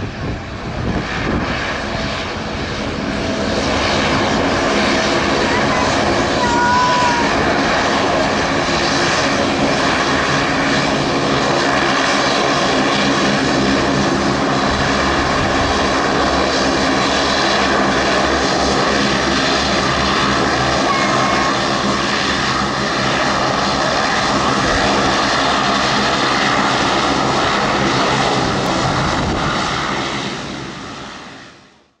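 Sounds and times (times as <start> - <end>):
jet engines at takeoff: 0.0 - 32.0.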